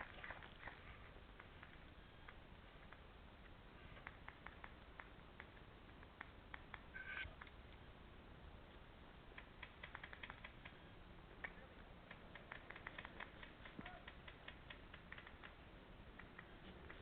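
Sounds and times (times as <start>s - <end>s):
quiet background hiss: 0.0s - 17.0s
faint clicks and ticks: 0.3s - 7.9s, 9.3s - 17.0s.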